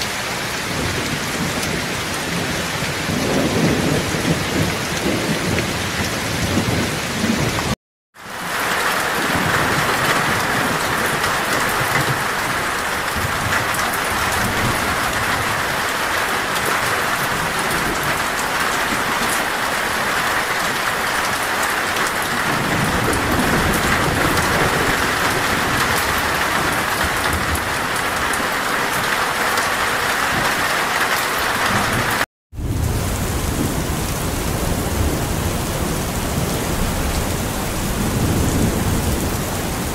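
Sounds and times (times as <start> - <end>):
heavy rainfall: 0.0 - 39.9
low rumbles of thunder: 0.6 - 7.8, 9.2 - 19.6, 22.2 - 29.1, 31.6 - 39.9.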